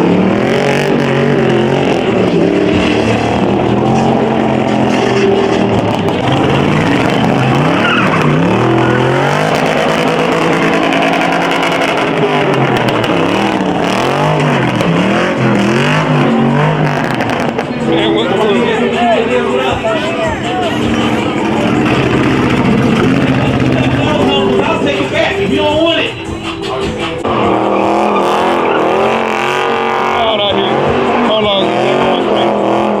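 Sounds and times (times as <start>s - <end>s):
car engines revving hard: 0.0s - 33.0s
tires squealing and skidding: 0.0s - 33.0s.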